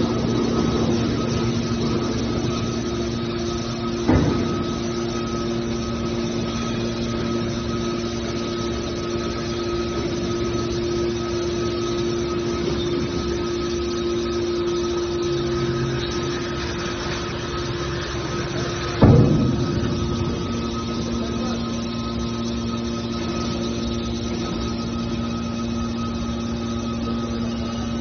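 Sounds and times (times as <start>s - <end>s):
hydraulic power unit humming: 0.0s - 28.0s.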